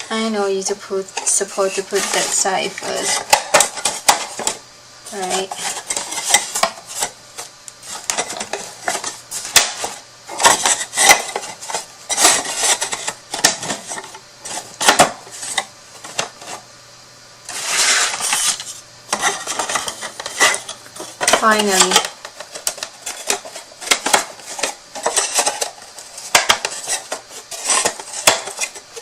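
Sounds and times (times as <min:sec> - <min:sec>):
wood scraping on wood: 0:01.2 - 0:16.7, 0:17.5 - 0:29.0.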